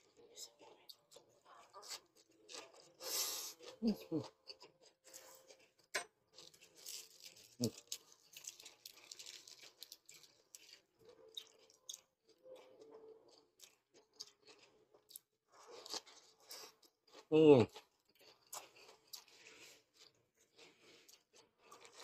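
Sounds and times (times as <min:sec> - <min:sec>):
faint chewing crunches: 0:00.0 - 0:22.0.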